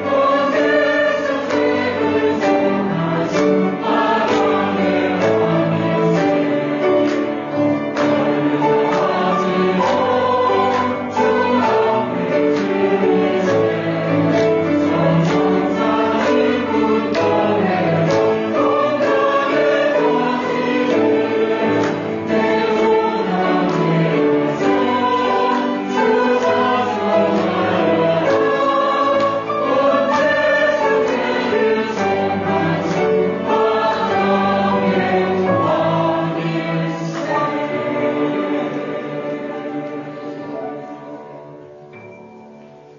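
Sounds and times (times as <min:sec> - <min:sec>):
choir singing a hymn: 0:00.0 - 0:42.3.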